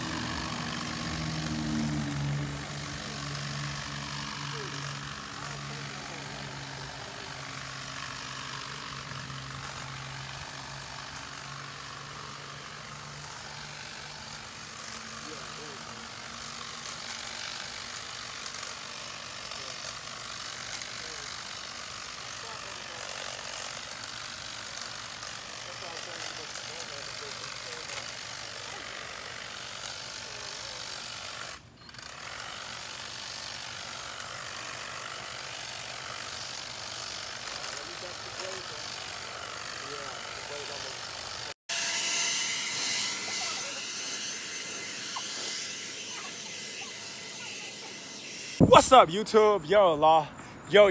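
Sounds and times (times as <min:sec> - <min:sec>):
hedge trimmer running: 0:00.0 - 0:50.9.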